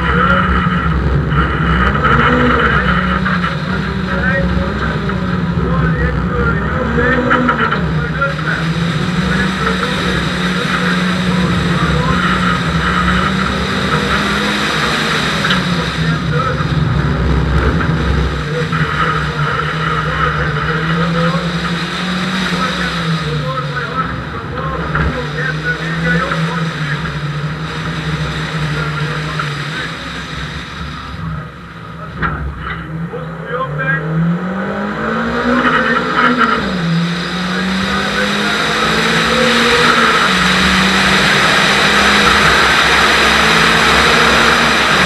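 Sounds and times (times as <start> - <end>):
rally car engine running hard: 0.0 - 45.0.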